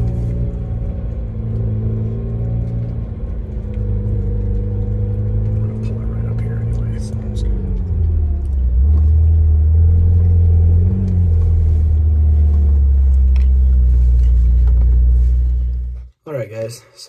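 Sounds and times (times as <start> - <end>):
car engine drone from inside cabin: 0.0 - 16.1.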